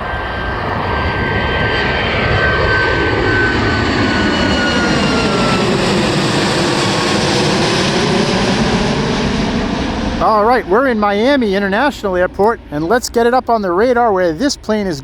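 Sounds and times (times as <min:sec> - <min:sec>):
jet airliner taking off: 0:00.0 - 0:15.0.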